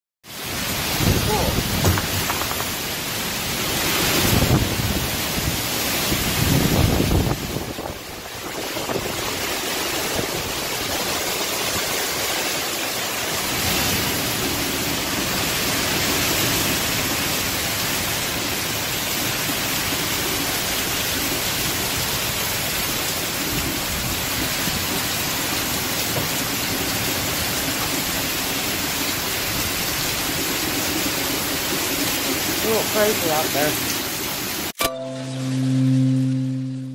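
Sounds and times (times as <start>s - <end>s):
heavy rain pouring: 0.3s - 36.9s.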